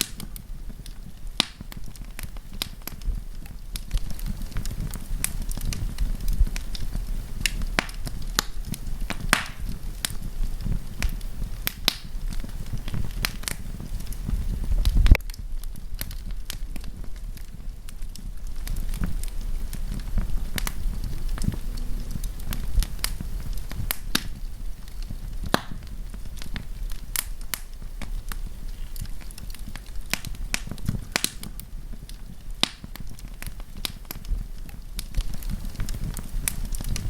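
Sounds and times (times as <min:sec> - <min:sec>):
low rumble of flames: 0:00.0 - 0:37.0
wood fire crackling: 0:00.0 - 0:37.0.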